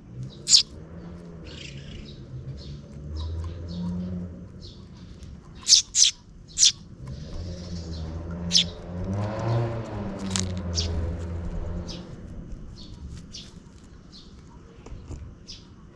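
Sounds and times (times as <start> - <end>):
low steady rumble: 0.0 - 15.9
sparrows chirping: 0.0 - 15.9.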